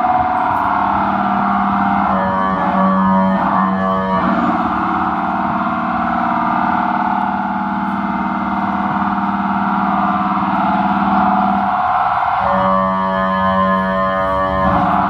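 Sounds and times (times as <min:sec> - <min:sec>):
emergency sirens wailing: 0:00.0 - 0:15.0
steady low tone: 0:00.0 - 0:15.0.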